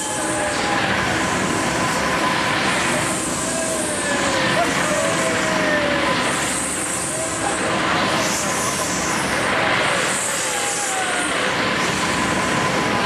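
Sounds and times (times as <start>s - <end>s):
fairground ride running: 0.0s - 13.0s.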